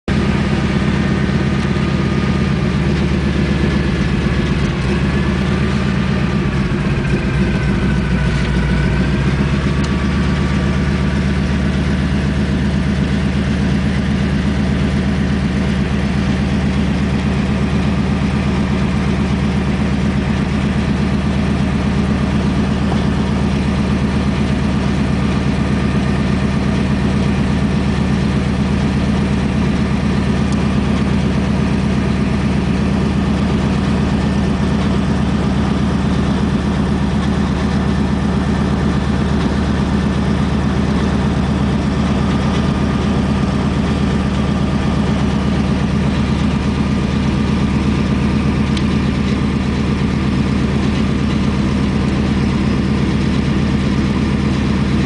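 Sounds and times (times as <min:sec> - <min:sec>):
plane engine drone from cabin: 0:00.1 - 0:25.0, 0:25.8 - 0:55.0.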